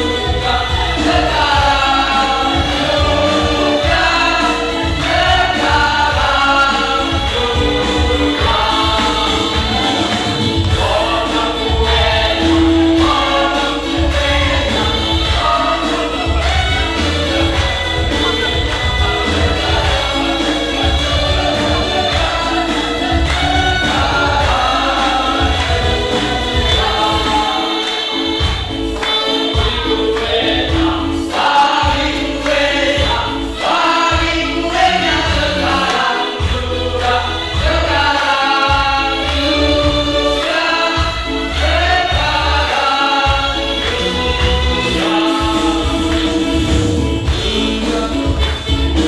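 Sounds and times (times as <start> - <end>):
instrumental accompaniment with bass beat: 0.0 - 49.0
voices singing together: 0.0 - 49.0.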